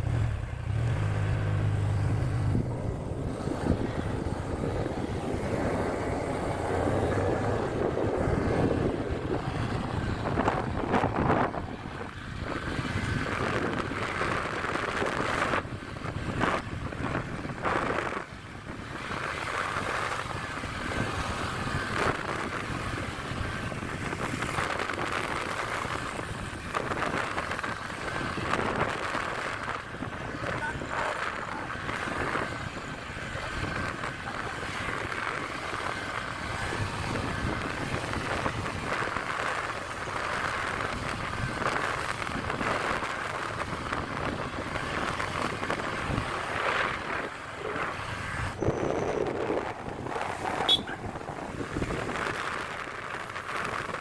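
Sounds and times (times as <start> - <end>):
scooter road noise: 0.0 - 54.0
wind rush on microphone: 0.0 - 54.0.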